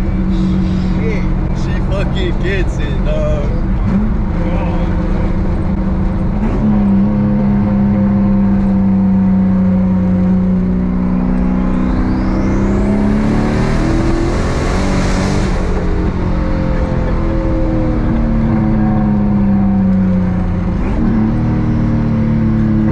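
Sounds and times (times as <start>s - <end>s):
car engine accelerating hard: 0.0s - 22.9s.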